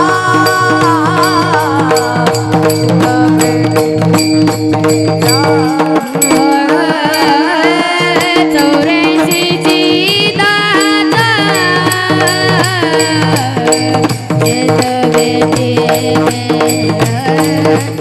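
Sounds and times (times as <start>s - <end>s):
drum beat: 0.0s - 18.0s.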